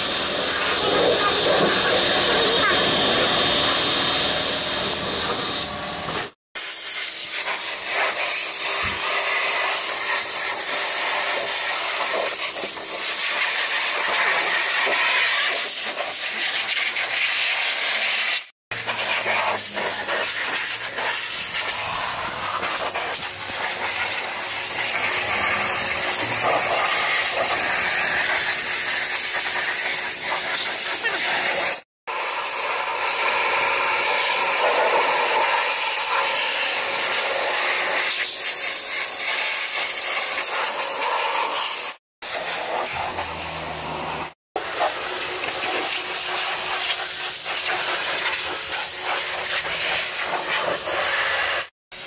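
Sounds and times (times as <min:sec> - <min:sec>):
pressure washer spraying water: 0:00.0 - 0:05.6, 0:06.2 - 0:52.0.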